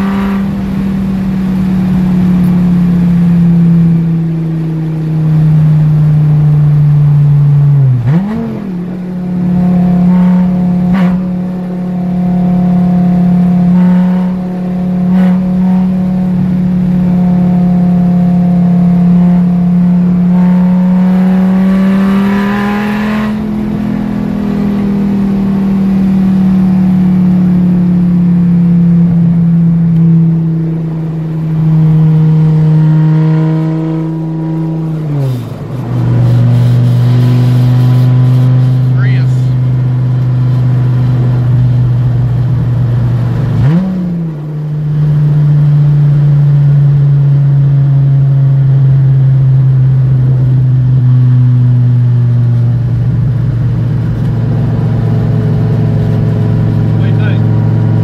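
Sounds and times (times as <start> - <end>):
car engine droning from cabin: 0.0 - 58.0.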